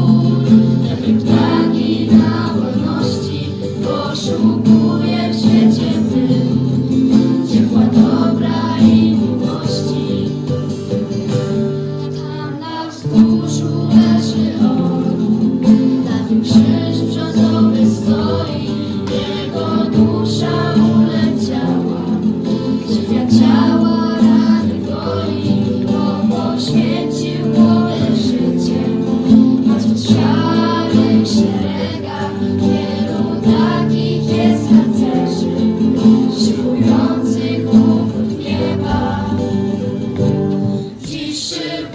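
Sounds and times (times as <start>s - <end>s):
acoustic guitar: 0.0s - 41.9s
group of voices singing: 0.0s - 41.9s.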